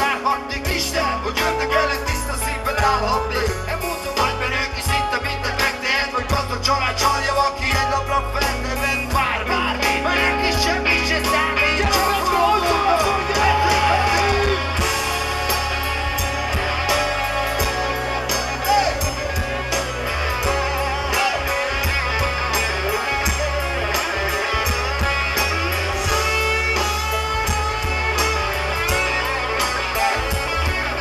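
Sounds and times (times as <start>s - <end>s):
guitars: 0.0s - 31.0s
heavy bass: 0.0s - 31.0s.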